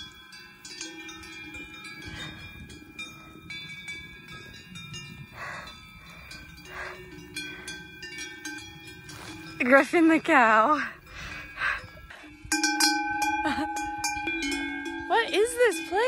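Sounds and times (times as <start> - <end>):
cowbells ringing: 0.0 - 16.0.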